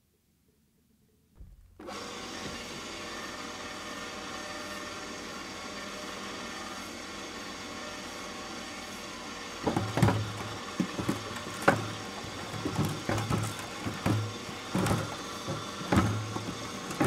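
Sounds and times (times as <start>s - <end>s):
cement mixer whirring: 1.8s - 17.0s.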